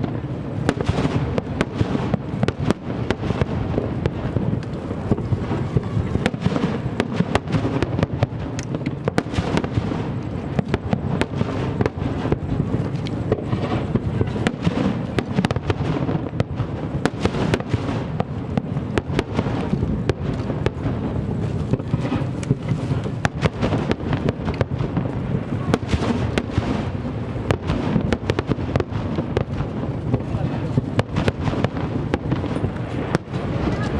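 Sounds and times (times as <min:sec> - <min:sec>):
firework shell bursts and crackles: 0:00.0 - 0:33.9.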